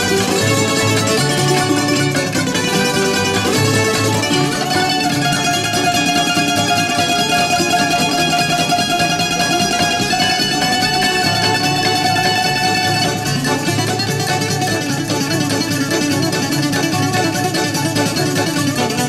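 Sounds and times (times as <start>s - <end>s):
lower instrumental accompaniment: 0.0s - 19.0s
plucked bouzouki melody: 0.0s - 19.0s.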